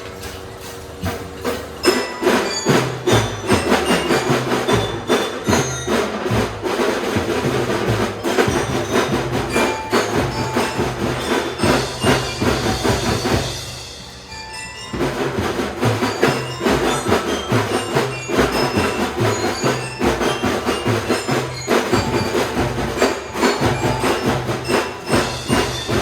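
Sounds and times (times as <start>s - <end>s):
bell-like melody: 0.0s - 26.0s
drums beating: 0.0s - 26.0s.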